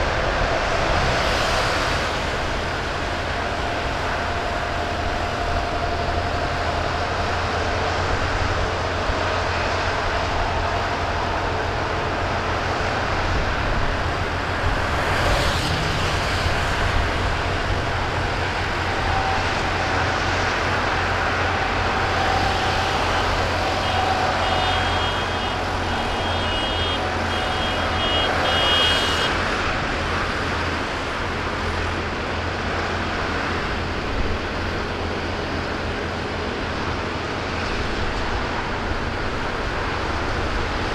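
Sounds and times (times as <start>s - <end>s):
tractor diesel engines rumbling: 0.0s - 40.9s.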